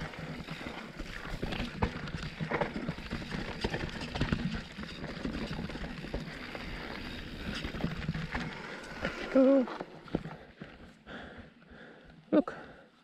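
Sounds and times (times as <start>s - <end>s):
tyres crunching over stones: 0.0s - 10.7s
bike knocking and rattling: 0.0s - 11.0s.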